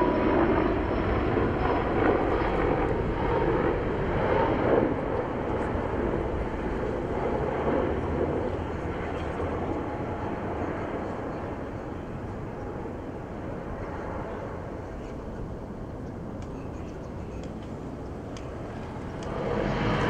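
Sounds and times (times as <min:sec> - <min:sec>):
helicopter turbine and rotor: 0:00.0 - 0:20.0.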